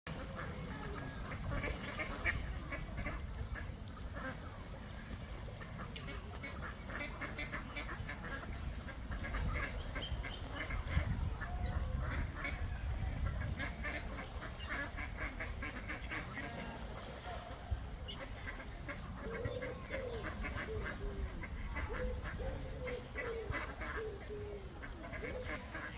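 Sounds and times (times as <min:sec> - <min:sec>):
ducks quacking: 0:00.1 - 0:25.9.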